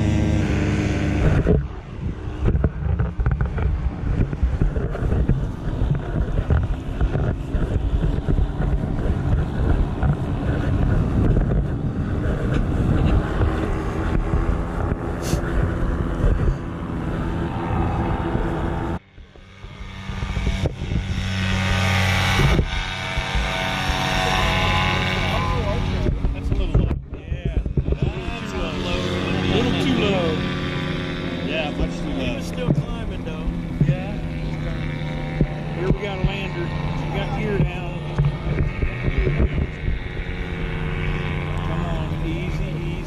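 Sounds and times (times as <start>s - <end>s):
paramotor engine and propeller: 0.0s - 43.0s
wind buffeting microphone: 0.0s - 43.0s.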